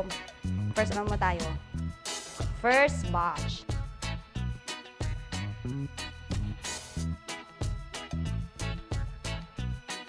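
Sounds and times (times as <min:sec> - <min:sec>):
upbeat background music with bass: 0:00.0 - 0:10.0.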